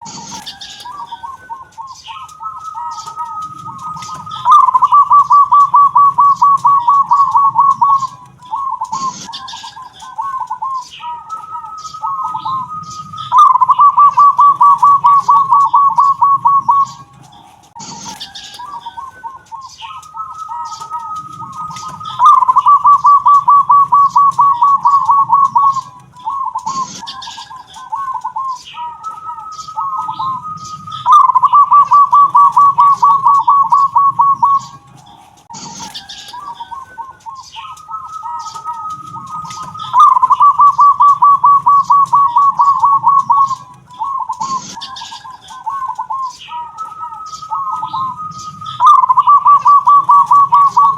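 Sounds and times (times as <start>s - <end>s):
dove cooing: 0.0s - 50.9s
faint high chirps: 0.0s - 50.9s.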